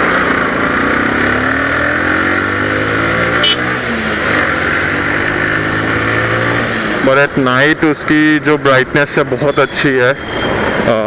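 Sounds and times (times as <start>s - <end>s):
motorcycle engine accelerating: 0.0s - 9.2s.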